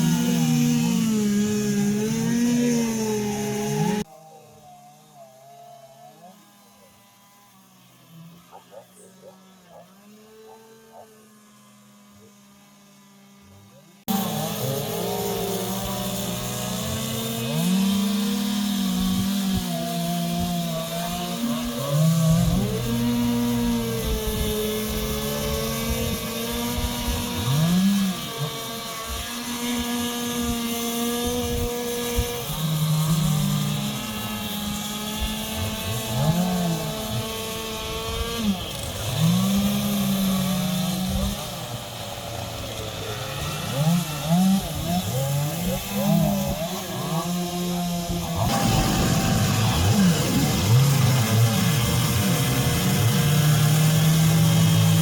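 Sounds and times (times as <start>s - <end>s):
chainsaw engine revving: 0.0s - 55.0s.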